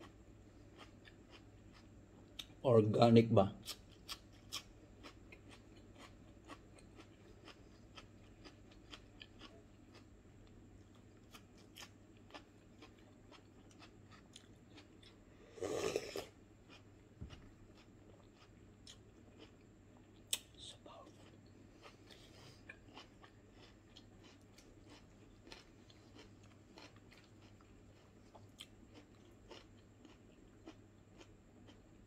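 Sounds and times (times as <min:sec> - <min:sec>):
chewing crunchy food: 0:00.0 - 0:02.6, 0:03.6 - 0:32.0.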